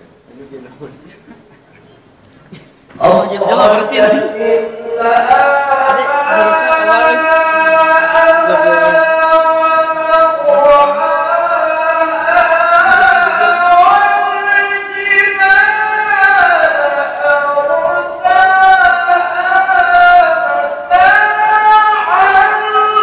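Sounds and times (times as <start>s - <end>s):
man reciting in melodic chant: 0.0s - 23.0s.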